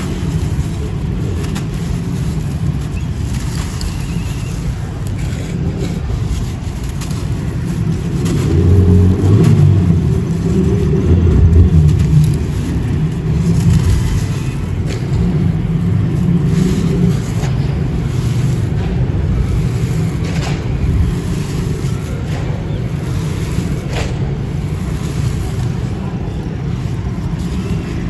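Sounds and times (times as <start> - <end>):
dry chunks crumbling: 0.0 - 28.0.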